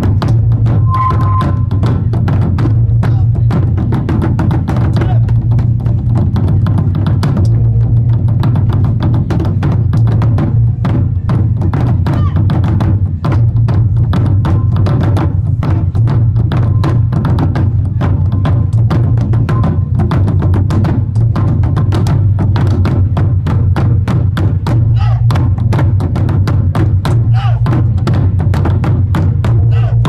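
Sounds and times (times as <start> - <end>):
barrel drums beaten with sticks: 0.0 - 30.0.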